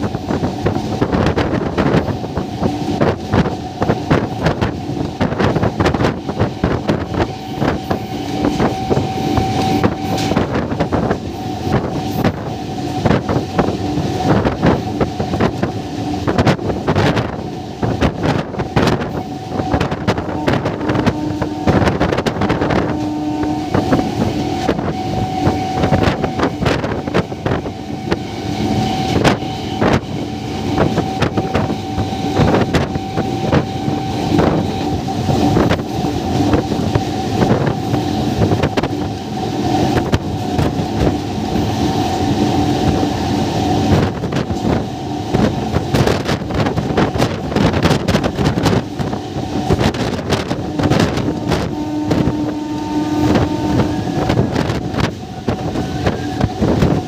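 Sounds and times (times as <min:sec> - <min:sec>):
electric train whine: 0:00.0 - 0:57.0
train wheels clattering on rails: 0:00.0 - 0:57.0
wind buffeting microphone: 0:00.0 - 0:57.0.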